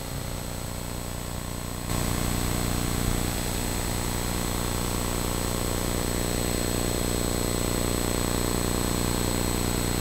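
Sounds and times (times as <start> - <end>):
low hum with buzz and hiss: 0.0 - 10.0.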